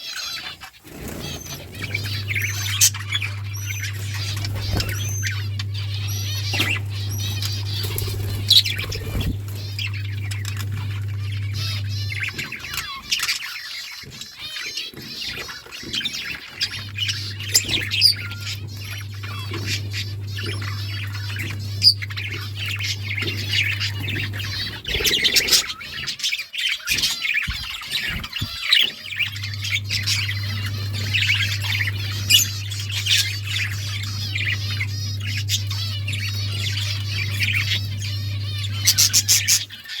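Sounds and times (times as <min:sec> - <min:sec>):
budgerigars chattering: 0:00.0 - 0:40.0
steady low hum: 0:00.9 - 0:13.1, 0:16.6 - 0:26.1, 0:28.1 - 0:39.8.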